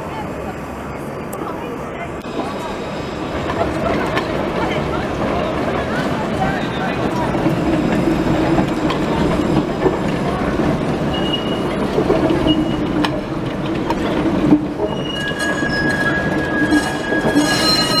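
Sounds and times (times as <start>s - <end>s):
tram wheels rumbling on rails: 0.0s - 18.0s
steel wheels squealing on rails: 2.2s - 18.0s.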